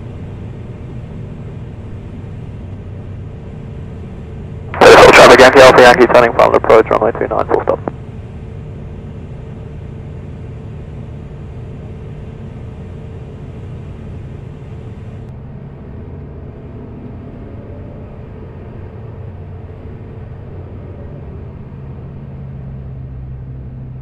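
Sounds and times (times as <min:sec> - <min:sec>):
aircraft engine and propeller droning: 0:00.0 - 0:24.0.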